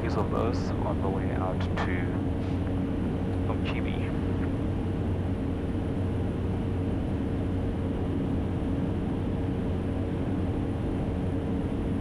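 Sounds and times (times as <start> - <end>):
turboprop engine drone: 0.0 - 12.0.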